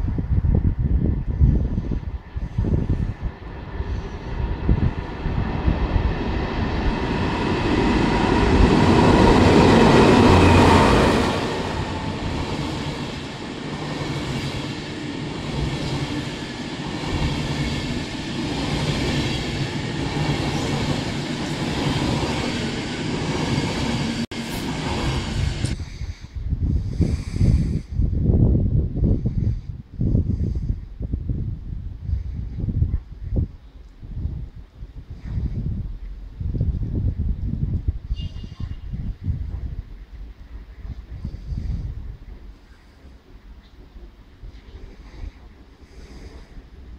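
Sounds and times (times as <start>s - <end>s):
passenger train rumbling past: 0.0s - 29.6s, 34.0s - 46.9s.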